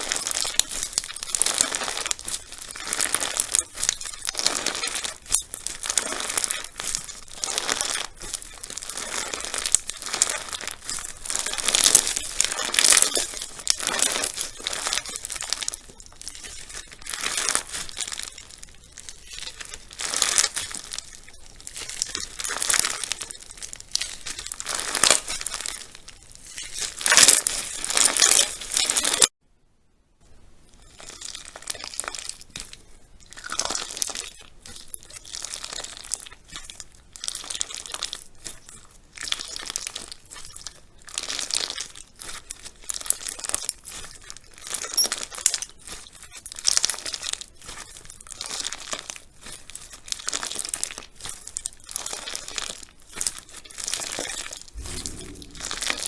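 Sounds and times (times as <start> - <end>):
slime crackling and crunching: 0.0 - 29.3, 30.8 - 56.0.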